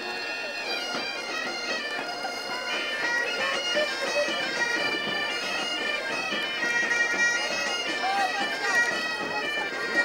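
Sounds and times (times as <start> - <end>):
bagpipes playing: 0.0 - 10.0.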